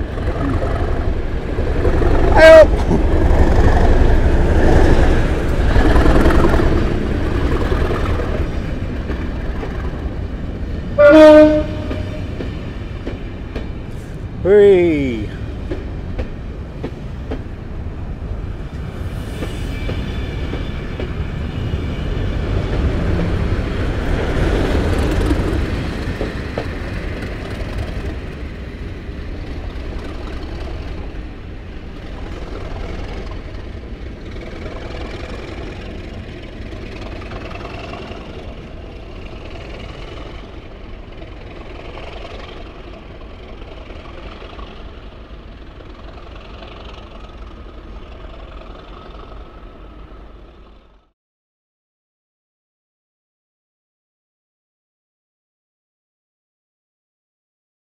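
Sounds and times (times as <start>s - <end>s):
diesel locomotive passing: 0.0s - 51.1s.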